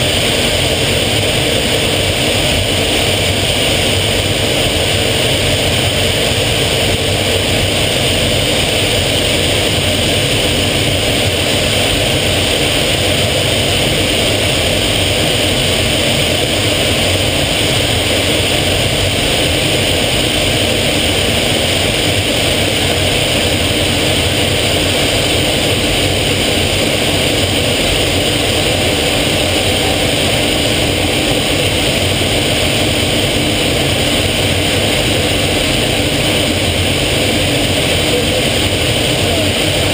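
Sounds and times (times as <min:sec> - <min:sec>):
aircraft engine and airflow noise: 0:00.0 - 0:39.9.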